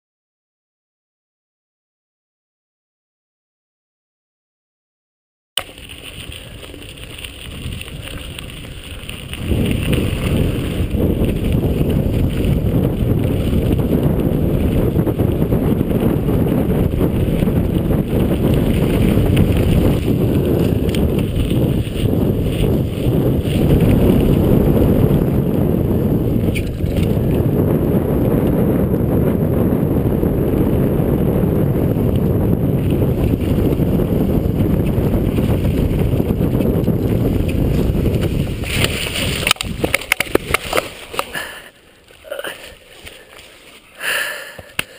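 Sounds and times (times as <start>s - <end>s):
bike rattling: 5.6s - 44.9s
tyres rumbling on dirt: 5.6s - 44.9s
wind buffeting microphone: 5.6s - 44.9s.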